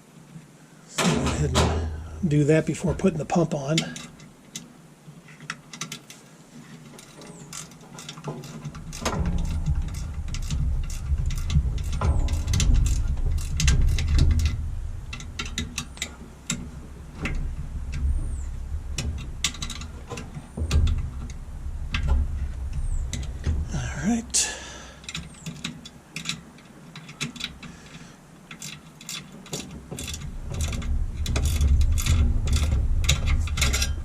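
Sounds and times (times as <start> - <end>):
low rumble of machine handling: 0.9 - 34.0
metal clicks: 1.0 - 23.7, 24.5 - 34.0
ratcheting clicks and clanks: 1.0 - 34.0.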